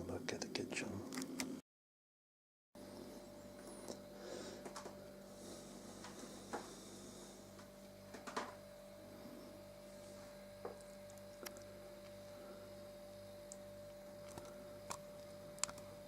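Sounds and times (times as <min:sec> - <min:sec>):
electrical hum: 0:00.0 - 0:01.6, 0:02.8 - 0:16.0.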